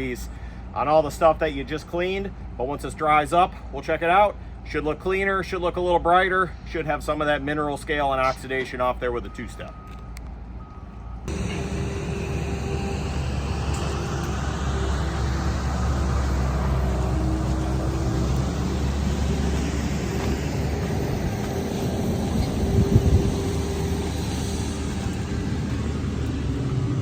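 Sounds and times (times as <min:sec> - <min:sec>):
large engine rumbling: 0:00.0 - 0:27.0.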